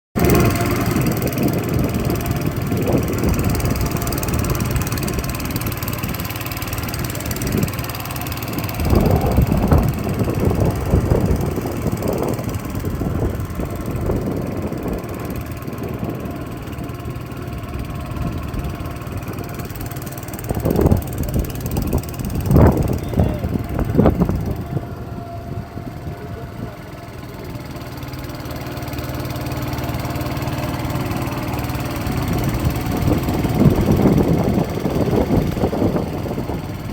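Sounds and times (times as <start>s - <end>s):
motor boat engine running: 0.2s - 36.9s.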